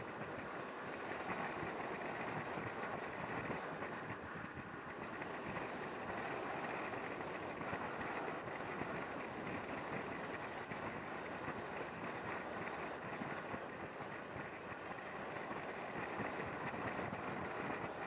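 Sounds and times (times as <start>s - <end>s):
motorcycle road and engine noise: 0.0s - 18.0s
wind over microphone: 0.0s - 18.0s.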